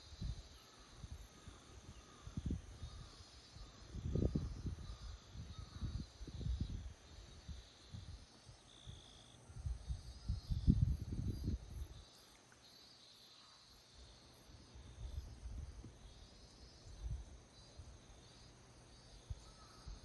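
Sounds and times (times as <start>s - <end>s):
crickets and insects trilling: 0.0s - 20.0s.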